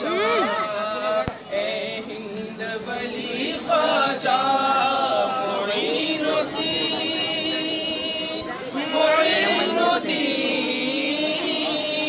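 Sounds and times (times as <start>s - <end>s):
men chanting together: 0.5s - 12.0s.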